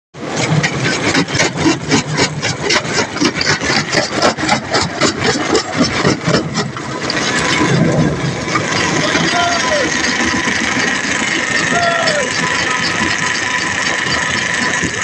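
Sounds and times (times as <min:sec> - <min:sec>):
engine idling chugging: 0:00.2 - 0:15.0.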